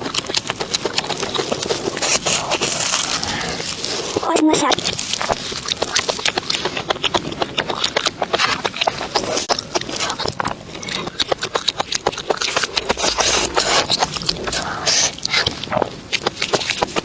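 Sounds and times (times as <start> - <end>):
chewing crunchy food: 0.0 - 17.0.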